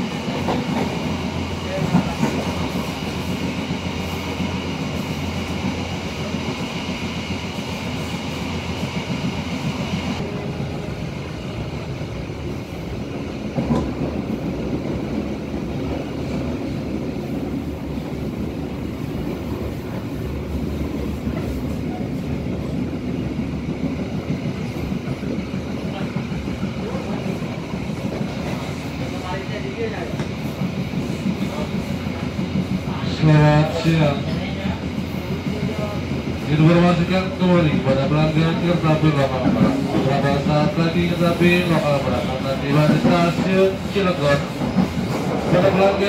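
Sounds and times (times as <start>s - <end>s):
train coach rumbling: 0.0s - 46.0s.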